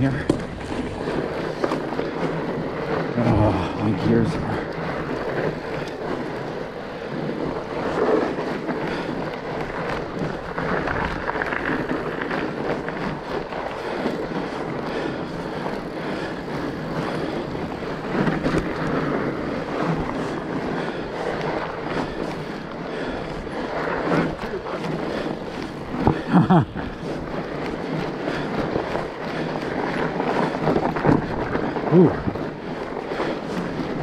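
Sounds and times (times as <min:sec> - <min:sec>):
bike rattling: 0:00.0 - 0:34.0
wide bike tires rumbling: 0:00.0 - 0:34.0.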